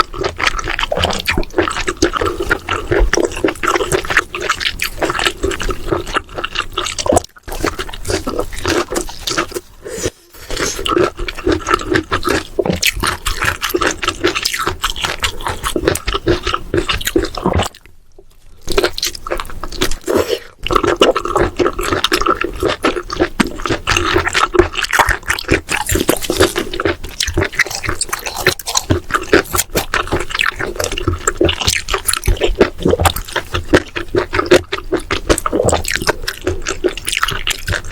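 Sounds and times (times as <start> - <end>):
wet chewing and slurping: 0.0 - 37.9.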